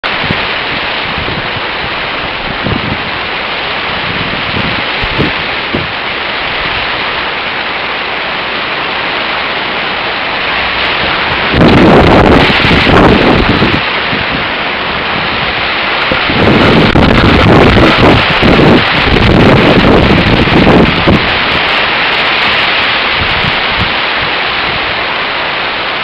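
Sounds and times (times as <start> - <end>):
wind buffeting microphone: 0.0 - 25.6
heavy rain: 0.0 - 26.0
strong wind: 0.0 - 26.0.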